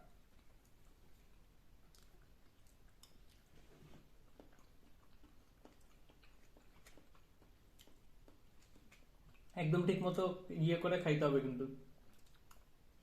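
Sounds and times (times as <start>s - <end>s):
faint chewing: 0.0s - 9.6s, 11.9s - 13.0s.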